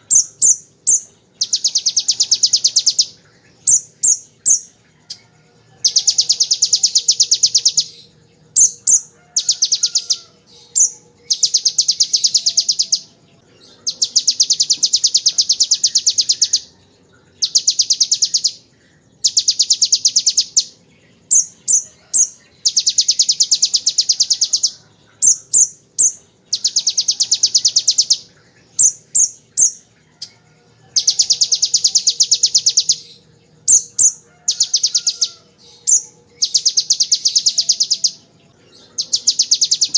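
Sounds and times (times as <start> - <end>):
bird buzzing trills: 0.0 - 39.9
bird high chirps: 0.0 - 39.9.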